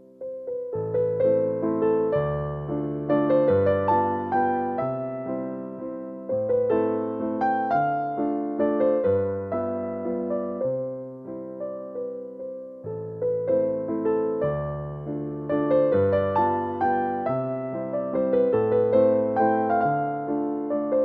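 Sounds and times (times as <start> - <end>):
electric piano melody: 0.0 - 21.0.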